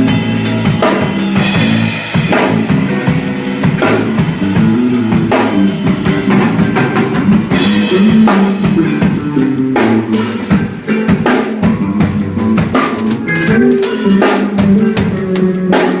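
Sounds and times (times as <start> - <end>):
drum kit beat: 0.0 - 16.0
overdriven electric guitar: 0.0 - 16.0.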